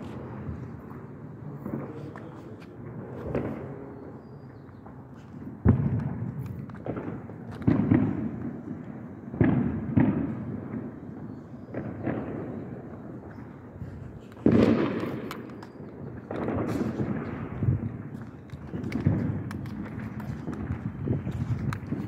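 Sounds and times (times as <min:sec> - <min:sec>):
fireworks bangs echoing: 0:00.0 - 0:22.0.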